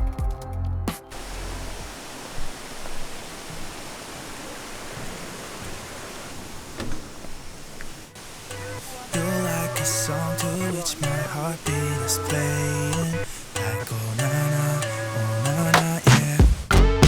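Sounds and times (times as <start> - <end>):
waterfall rushing: 1.1 - 16.4.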